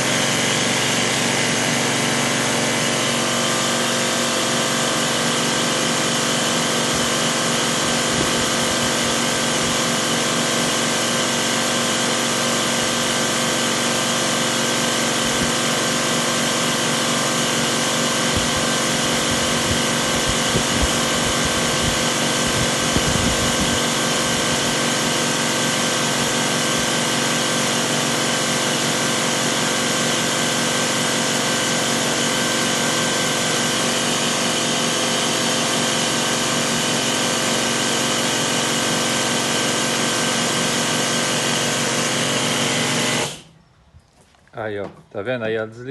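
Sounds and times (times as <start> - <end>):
washing machine whine: 0.0 - 43.7.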